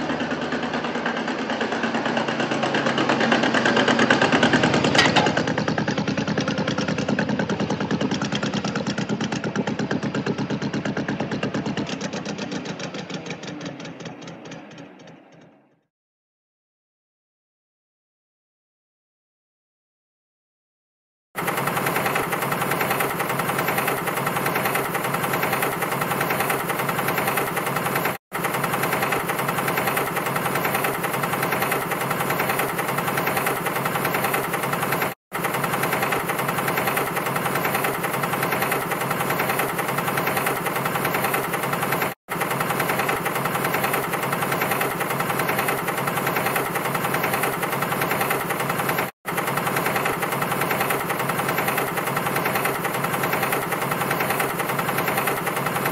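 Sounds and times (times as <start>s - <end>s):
tractor engine chugging: 0.0s - 15.6s, 21.4s - 55.9s.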